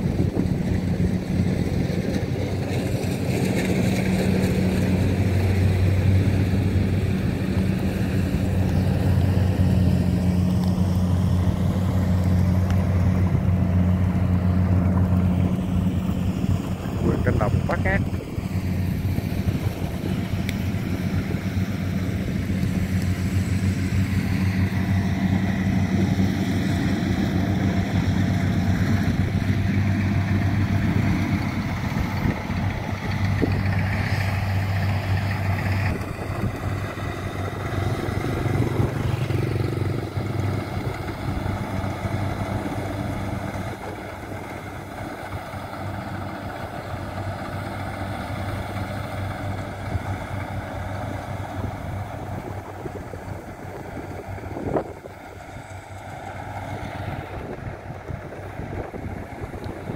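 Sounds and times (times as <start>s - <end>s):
combine harvesters working: 0.0s - 59.9s
motorbike engine: 0.0s - 59.9s
tractor engine: 0.0s - 59.9s.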